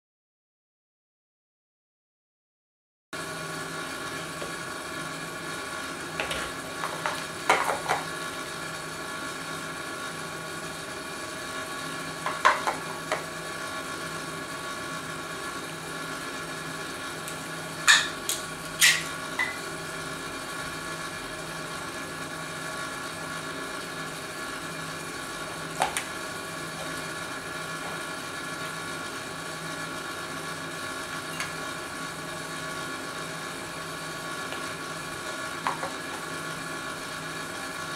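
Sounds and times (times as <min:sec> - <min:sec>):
machine hum: 0:03.2 - 0:37.9.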